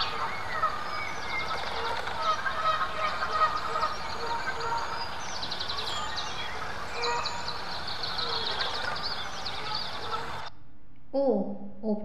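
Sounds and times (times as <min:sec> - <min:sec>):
birds singing and trilling: 0:00.0 - 0:10.5.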